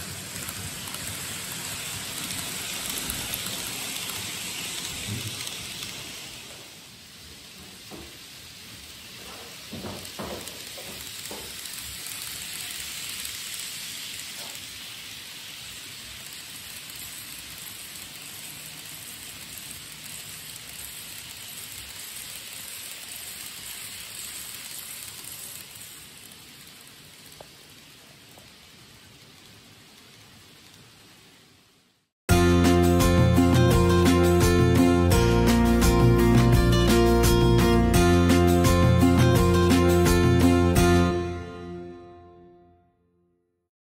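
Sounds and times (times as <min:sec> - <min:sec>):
model train whirring: 0:00.0 - 0:41.2.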